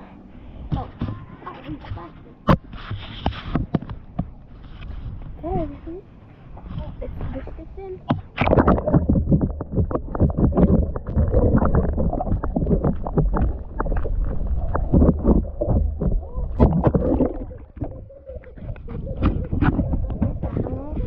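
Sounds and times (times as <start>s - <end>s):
underwater water sloshing and bubbling: 2.4s - 21.0s.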